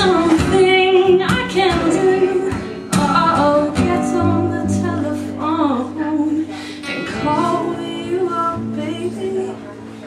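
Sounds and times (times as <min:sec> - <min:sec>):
strummed acoustic guitar: 0:00.0 - 0:10.0
woman singing: 0:00.0 - 0:10.0.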